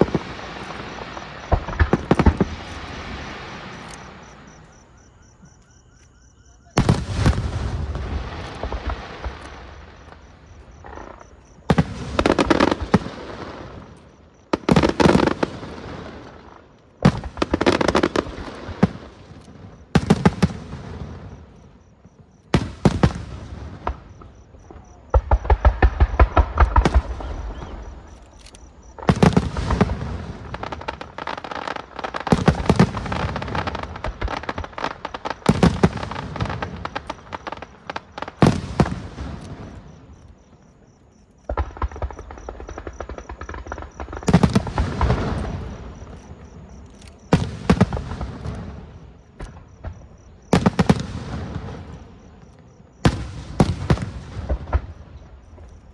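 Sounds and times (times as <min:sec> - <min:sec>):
fireworks bangs and crackling: 0:00.0 - 0:04.9, 0:06.6 - 0:55.9.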